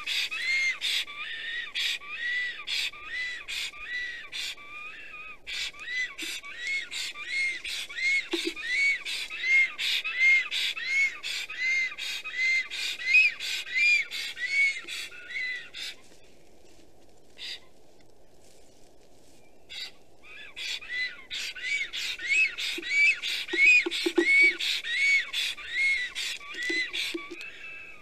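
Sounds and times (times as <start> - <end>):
stork wheezy whistling calls: 0.0 - 16.1, 19.7 - 28.0.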